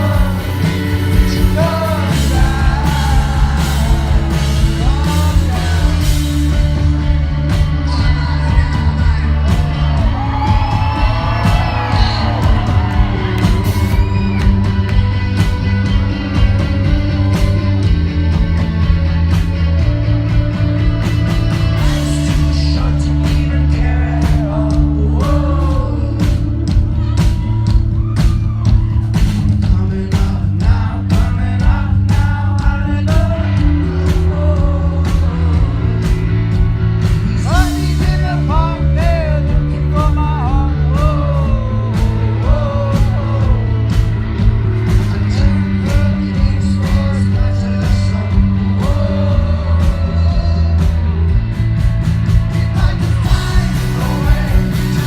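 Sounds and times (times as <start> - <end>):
lead singer singing: 0.0 - 18.4, 21.4 - 55.0
rock band playing live: 0.0 - 55.0.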